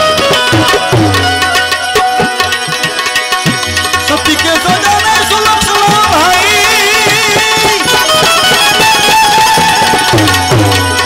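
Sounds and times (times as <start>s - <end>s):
high wavering melody: 0.0s - 11.0s
tabla playing: 0.0s - 11.0s.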